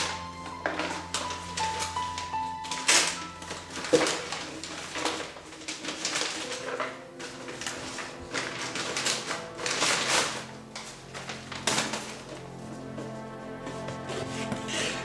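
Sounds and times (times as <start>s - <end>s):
wrapping paper crinkling and tearing: 0.0s - 15.0s.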